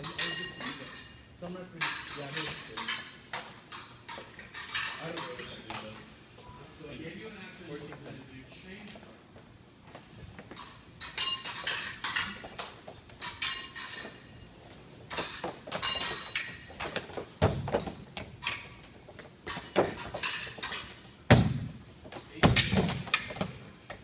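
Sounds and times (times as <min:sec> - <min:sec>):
fencing blades clashing: 0:00.0 - 0:06.1, 0:10.5 - 0:24.0.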